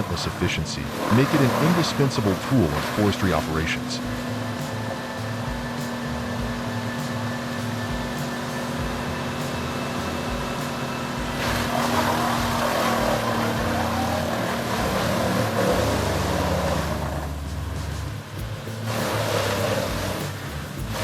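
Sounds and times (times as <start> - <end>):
wood chipper engine running: 0.0 - 21.0
wood grinding through chipper: 0.0 - 21.0.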